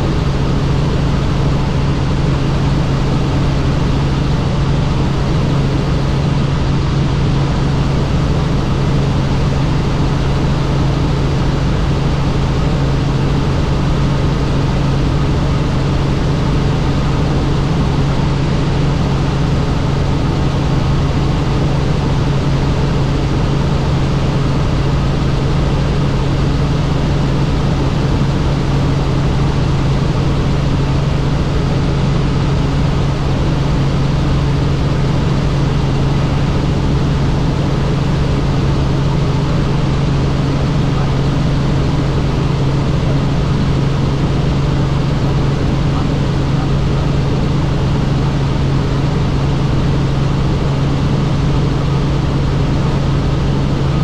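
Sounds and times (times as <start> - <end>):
helicopter rotor drone: 0.0 - 54.0.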